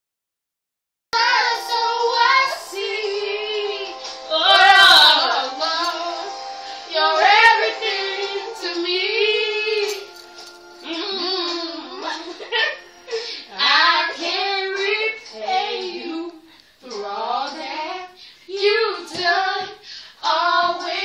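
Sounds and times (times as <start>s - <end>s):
two people singing: 1.2s - 21.0s.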